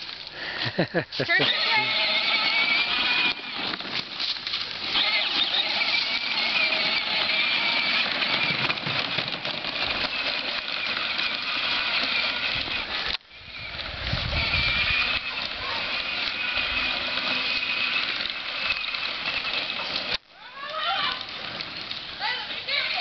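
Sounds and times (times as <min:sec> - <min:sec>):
electric motor and gearbox whine: 0:00.0 - 0:23.0
toy tractor wheels rumbling: 0:00.0 - 0:23.0.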